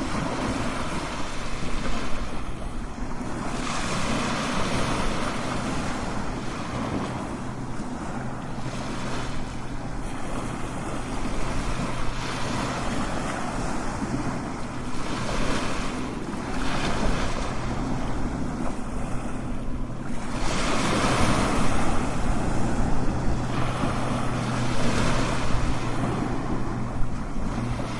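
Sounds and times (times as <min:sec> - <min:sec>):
ocean waves crashing: 0:00.0 - 0:27.9.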